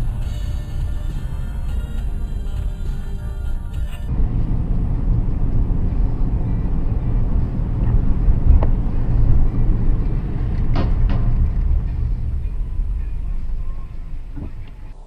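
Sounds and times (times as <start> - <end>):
vehicle road and engine rumble: 0.0 - 15.0.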